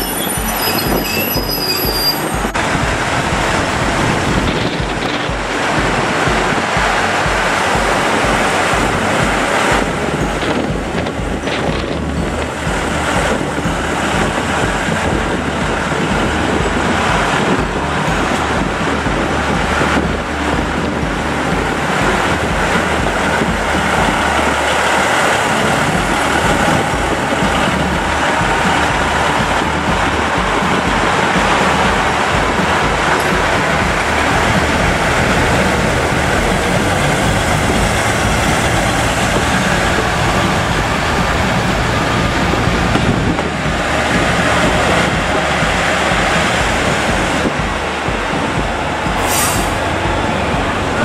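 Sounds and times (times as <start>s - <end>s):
diesel train passing: 0.0s - 51.0s.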